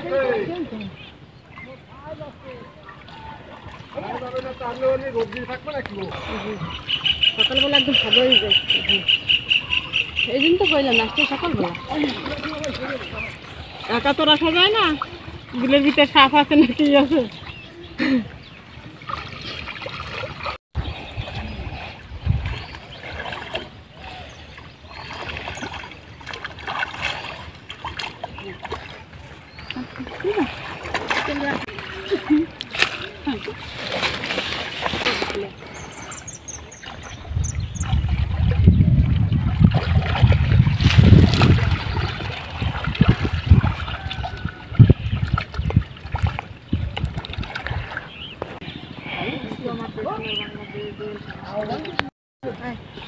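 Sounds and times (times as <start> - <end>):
water sloshing and splashing: 0.0 - 53.0.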